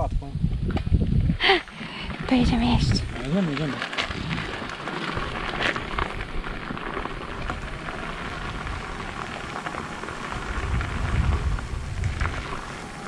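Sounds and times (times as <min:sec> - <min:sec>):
wind rumbling on microphone: 0:00.0 - 0:13.0
bicycle tyres rolling on gravel: 0:00.5 - 0:13.0.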